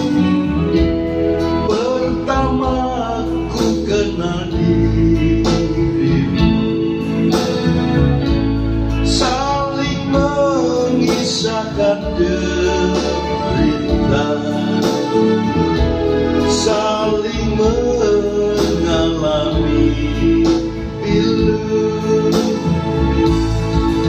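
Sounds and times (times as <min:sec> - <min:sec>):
electronic keyboard pop ballad: 0:00.0 - 0:24.0.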